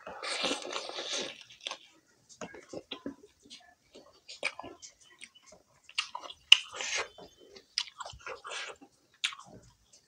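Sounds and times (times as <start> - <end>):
chewing with wet mouth clicks: 0.1 - 9.8.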